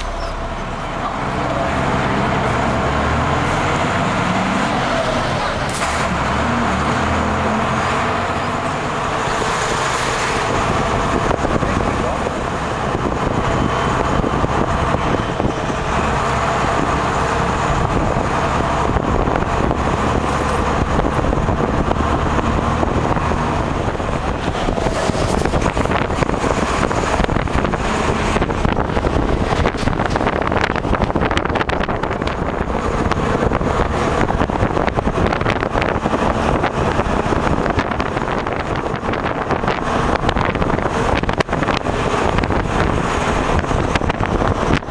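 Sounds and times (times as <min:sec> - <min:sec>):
bus engine rumble: 0:00.0 - 0:44.9.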